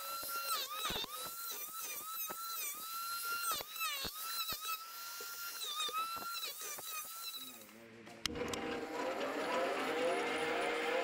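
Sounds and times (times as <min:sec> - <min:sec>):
angle grinder cutting wood: 0:00.0 - 0:07.7, 0:08.3 - 0:11.0.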